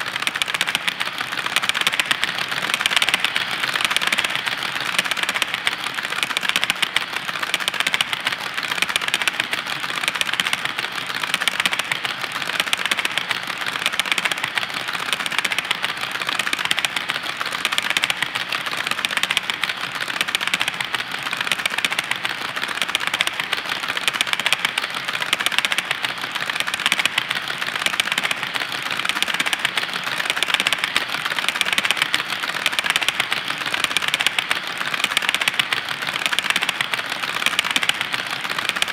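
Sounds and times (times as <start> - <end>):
model train wheels clattering: 0.0 - 38.9.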